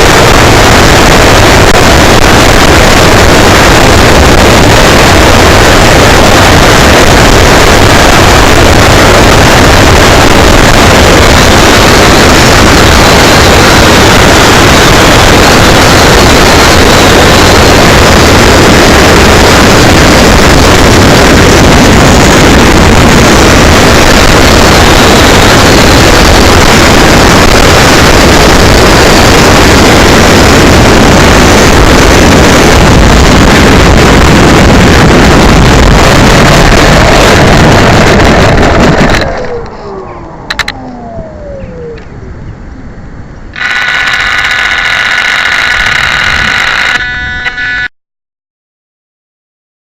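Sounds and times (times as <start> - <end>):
motor whine spinning down: 0.0 - 42.2, 43.5 - 47.9
propeller noise: 0.0 - 47.9
wind rushing on microphone: 0.0 - 47.9.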